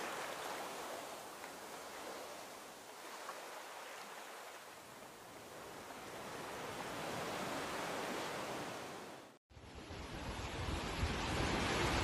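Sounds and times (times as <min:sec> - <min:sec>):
low rumble under surf: 0:00.0 - 0:12.0
small waves washing on sand: 0:00.0 - 0:12.0.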